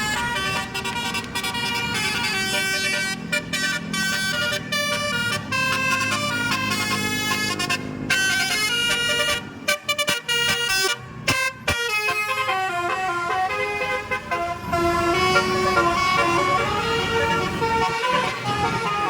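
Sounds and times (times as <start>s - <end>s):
bus engine rumbling: 0.0s - 19.0s
multi-tone air horn melody: 0.0s - 19.0s.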